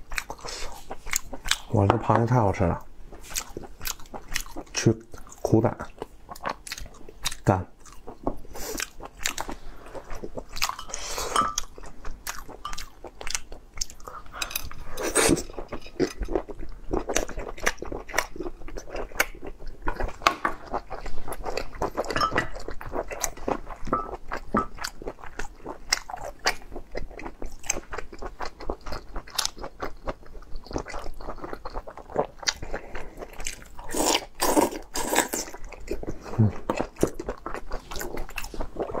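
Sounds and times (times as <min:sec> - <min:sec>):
chewing and crunching: 0:00.0 - 0:39.0.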